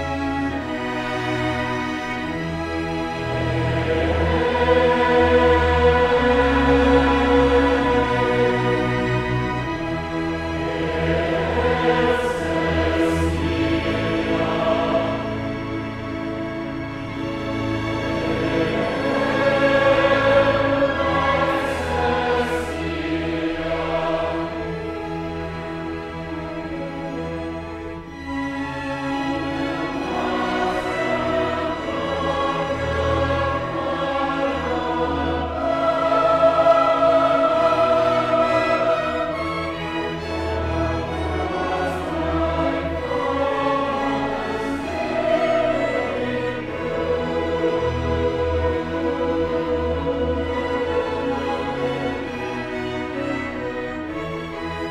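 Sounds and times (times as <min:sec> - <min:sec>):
choir singing sustained chords: 0:00.0 - 0:54.9
string orchestra: 0:00.0 - 0:54.9.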